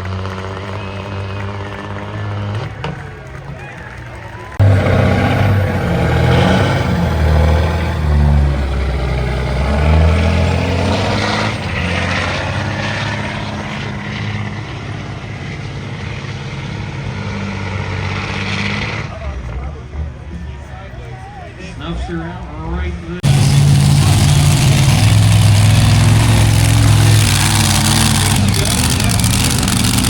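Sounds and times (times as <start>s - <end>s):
diesel truck engine running hard: 0.0s - 30.0s.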